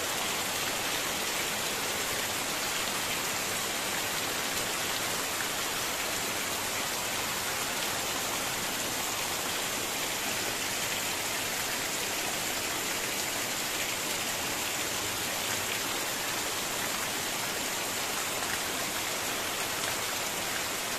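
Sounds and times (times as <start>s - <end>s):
heavy rain on a corrugated roof: 0.0s - 20.9s.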